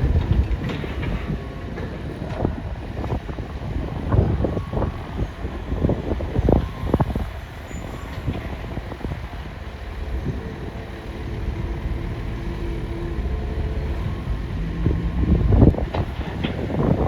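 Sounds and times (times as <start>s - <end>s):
excavator engine rumble: 0.0s - 17.0s.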